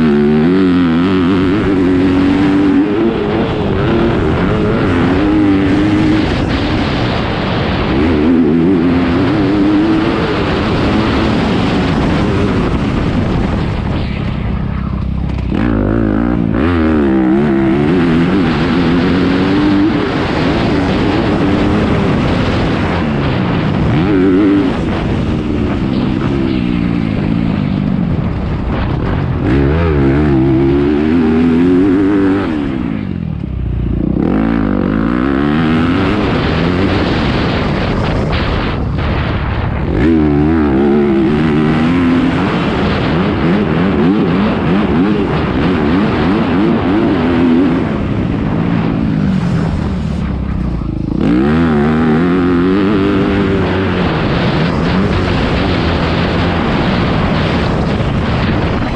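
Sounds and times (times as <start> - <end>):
dirt bike engines revving: 0.0 - 58.9.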